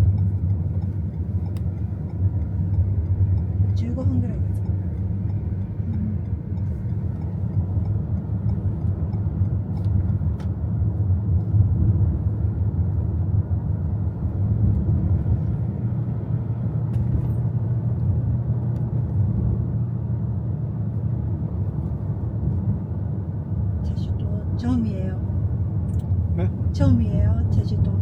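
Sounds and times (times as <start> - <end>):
car interior engine and road noise: 0.0 - 28.0.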